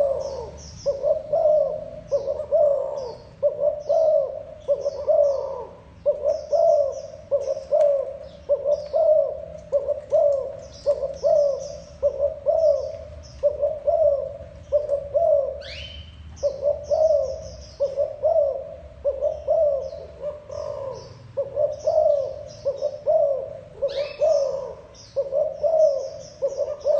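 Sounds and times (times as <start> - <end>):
dove cooing: 0.0 - 26.9
small birds chirping: 0.0 - 26.9.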